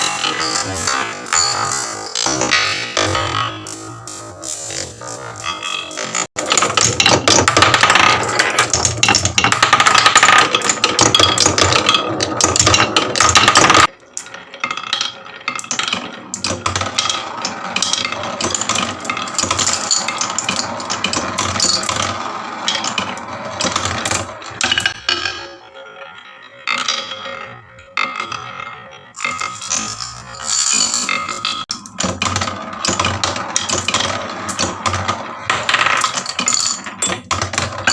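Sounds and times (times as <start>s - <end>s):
marbles clattering down wooden run: 5.5s - 37.9s.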